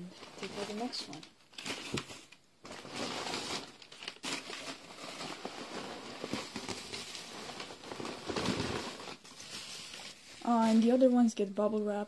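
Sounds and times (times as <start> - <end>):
packing paper and bubble wrap crinkling: 0.0 - 11.5.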